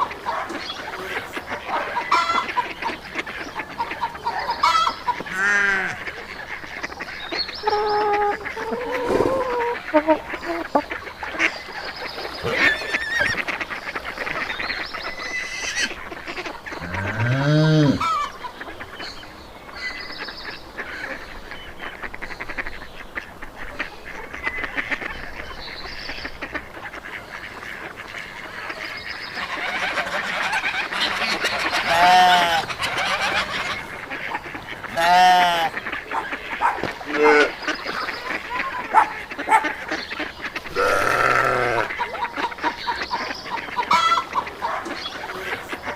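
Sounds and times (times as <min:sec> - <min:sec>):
farmyard fowl calling: 0:00.0 - 0:45.9.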